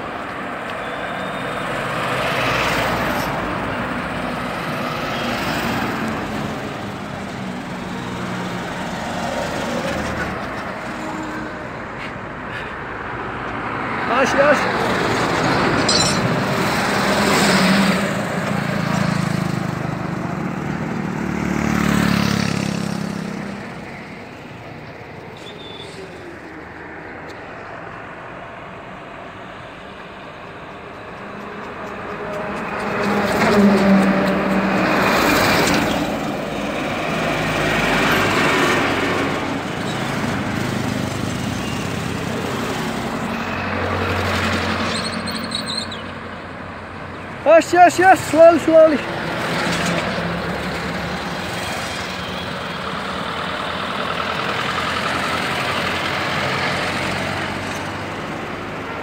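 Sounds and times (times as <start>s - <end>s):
steady road noise: 0.0s - 59.0s
vehicles passing on highway: 0.0s - 59.0s.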